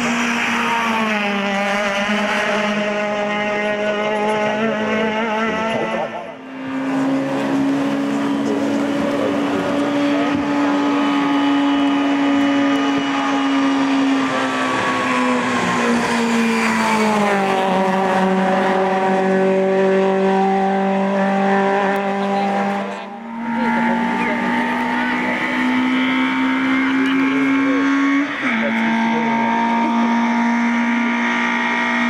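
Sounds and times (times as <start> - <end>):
race car engine at high revs: 0.0 - 32.0.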